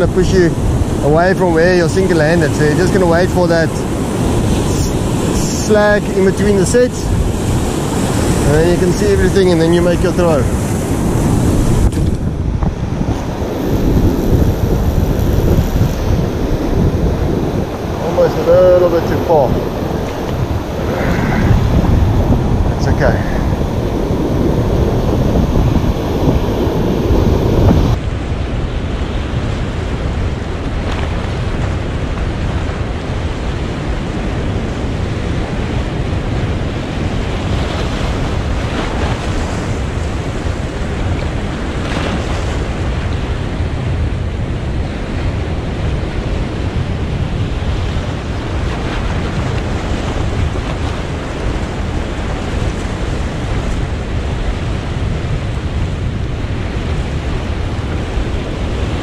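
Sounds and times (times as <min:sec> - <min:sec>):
surf washing over rocks: 0:00.0 - 0:59.0
wind buffeting microphone: 0:00.0 - 0:59.0.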